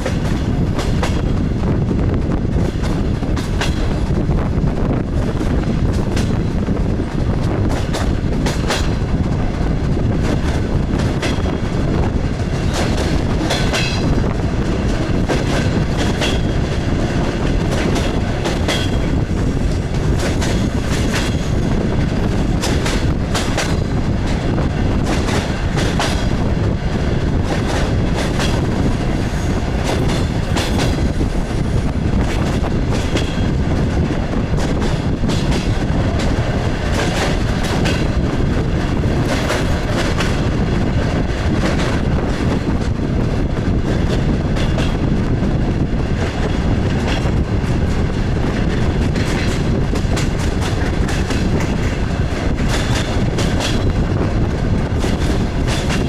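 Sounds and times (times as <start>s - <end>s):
train rumbling: 0.0s - 56.0s
wheels clicking over rail joints: 5.0s - 56.0s.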